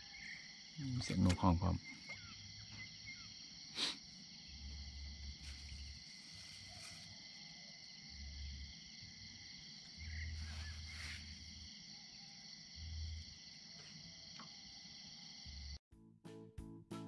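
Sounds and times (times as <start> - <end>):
night insects chorus: 0.0 - 15.8.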